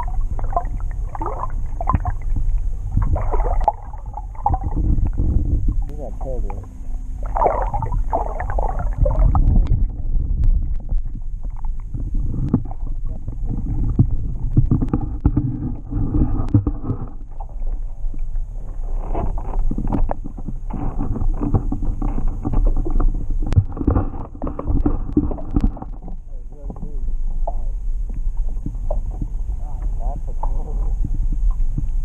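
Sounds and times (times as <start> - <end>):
muffled water sloshing against hull: 0.0 - 32.0.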